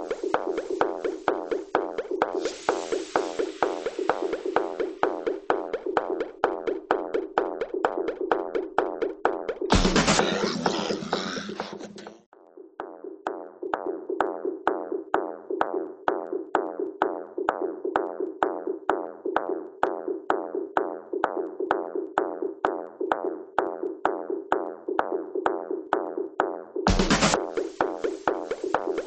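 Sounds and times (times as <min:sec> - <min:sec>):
drum machine beat: 0:00.0 - 0:29.0.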